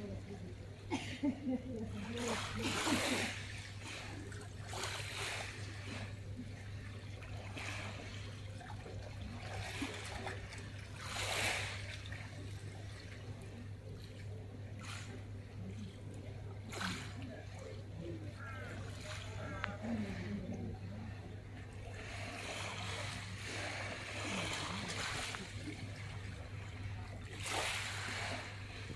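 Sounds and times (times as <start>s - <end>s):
waves lapping on pebbles: 1.5s - 20.2s, 21.7s - 28.9s.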